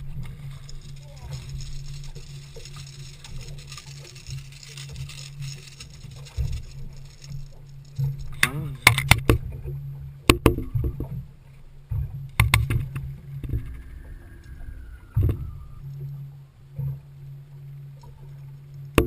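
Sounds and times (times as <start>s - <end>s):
low steady hum: 0.0s - 19.0s
water sloshing against hull: 0.0s - 19.0s.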